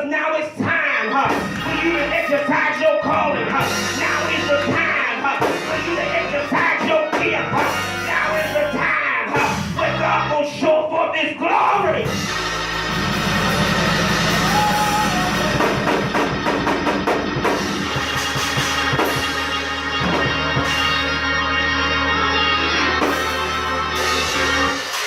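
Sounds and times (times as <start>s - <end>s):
drum kit playing: 0.6s - 8.8s, 12.0s - 25.0s
held keyboard chords: 0.6s - 10.5s, 12.0s - 25.0s
steady bass: 1.2s - 10.4s, 11.8s - 25.0s.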